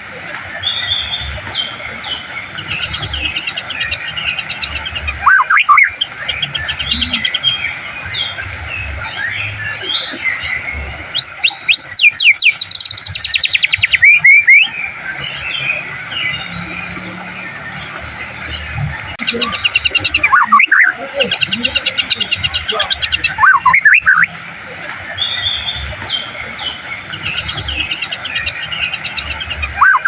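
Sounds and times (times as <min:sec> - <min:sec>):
small birds chirping: 0:00.0 - 0:30.0
songbird singing loud phrases: 0:00.2 - 0:30.0.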